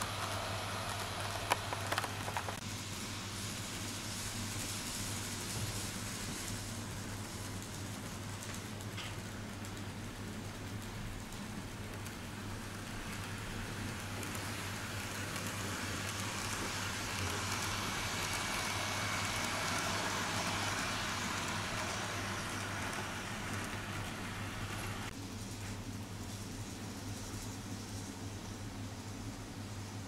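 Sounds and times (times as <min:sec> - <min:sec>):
model train motor and wheels whirring: 0:00.0 - 0:25.2.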